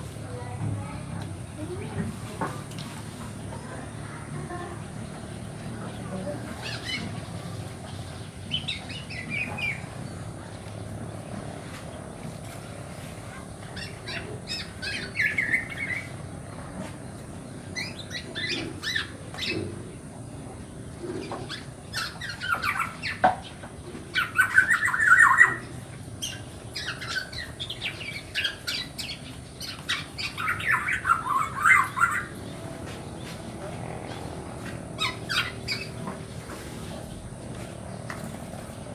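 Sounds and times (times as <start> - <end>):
bird chicks calling: 3.4 - 12.2, 12.9 - 38.9.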